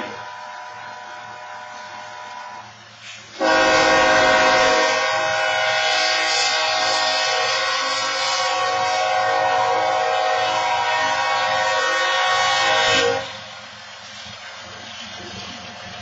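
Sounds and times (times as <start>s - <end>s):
locomotive air horn: 0.0s - 13.5s
train rolling: 0.0s - 16.0s.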